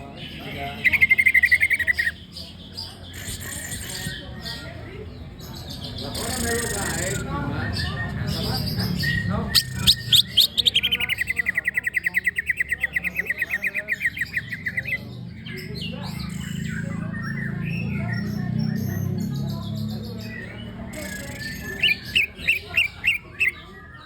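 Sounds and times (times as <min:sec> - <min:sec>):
bird chirps: 0:00.0 - 0:24.0
bird singing with fast trill: 0:00.0 - 0:24.0.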